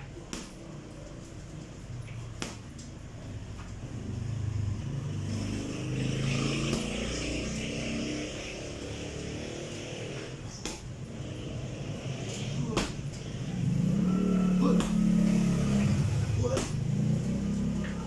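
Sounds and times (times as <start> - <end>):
vehicle engine: 3.2 - 18.0.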